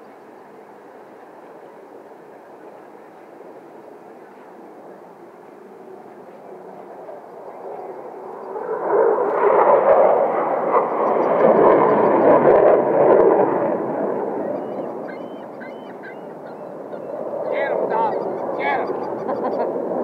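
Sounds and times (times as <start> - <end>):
aircraft flying past: 0.1 - 20.0.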